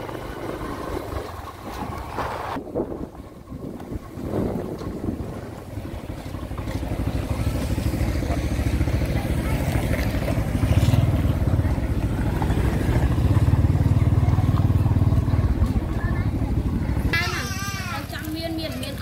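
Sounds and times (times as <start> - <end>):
small motorcycle engine: 0.0 - 19.0.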